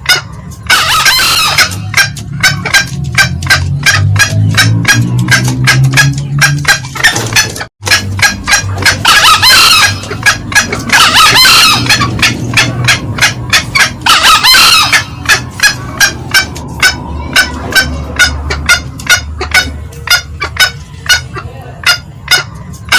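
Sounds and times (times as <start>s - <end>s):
junglefowl cackling calls: 0.0s - 22.9s
junglefowl crowing: 0.0s - 22.9s.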